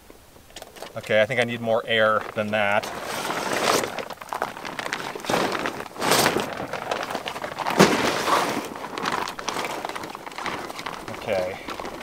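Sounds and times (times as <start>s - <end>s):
fabric crackling: 0.6s - 12.0s.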